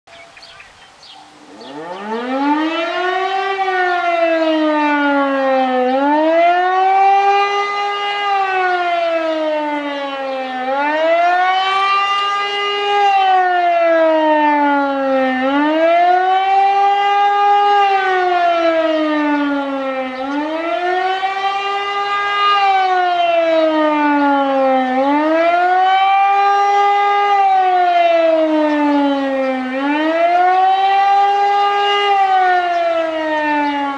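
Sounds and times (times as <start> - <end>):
civil-defence siren wailing: 0.2 - 33.9.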